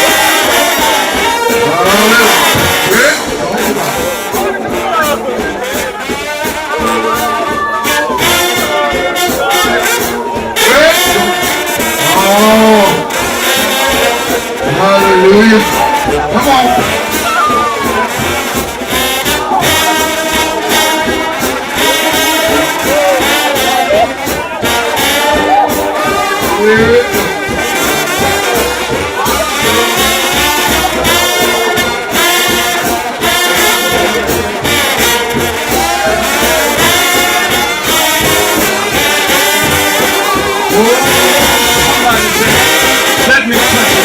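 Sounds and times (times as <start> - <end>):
trombone band playing a hymn: 0.0 - 44.0.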